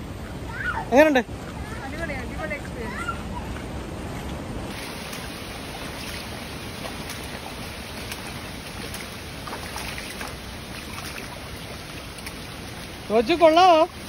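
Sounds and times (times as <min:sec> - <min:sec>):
stream running over rocks: 0:00.2 - 0:14.0.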